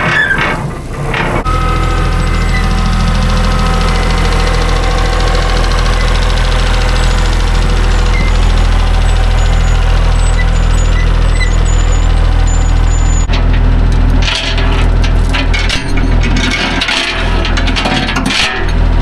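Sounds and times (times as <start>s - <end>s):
diesel tractor engine idling: 0.2s - 19.0s.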